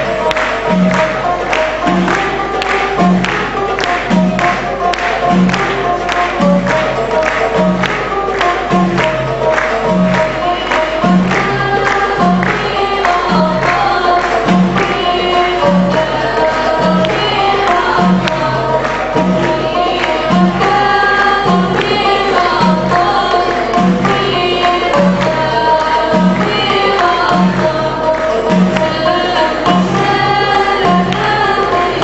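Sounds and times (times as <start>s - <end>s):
girls singing into microphones: 5.4s - 32.0s.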